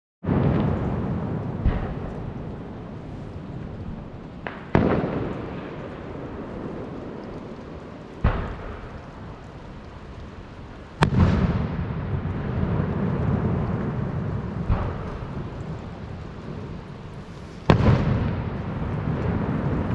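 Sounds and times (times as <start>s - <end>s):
crackling rumble: 0.2s - 19.9s
firework shells booming: 0.2s - 19.9s.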